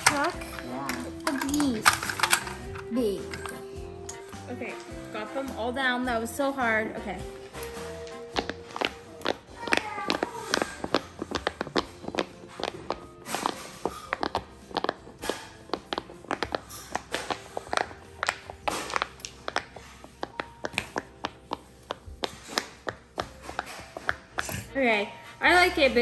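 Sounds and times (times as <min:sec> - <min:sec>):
faint background music: 0:00.0 - 0:26.0.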